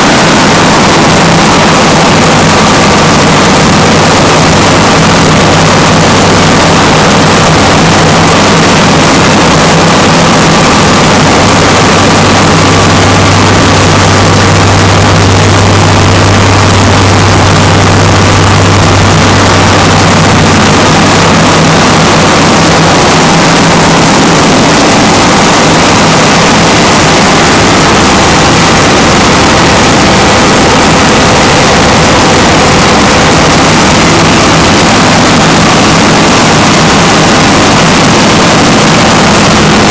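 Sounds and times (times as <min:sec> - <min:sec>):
diesel generator droning: 0:00.0 - 0:39.9.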